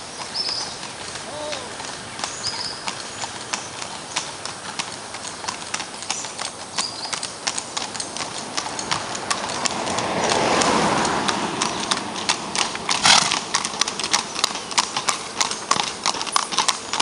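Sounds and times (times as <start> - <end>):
hooves clip-clopping on pavement: 0.0 - 17.0.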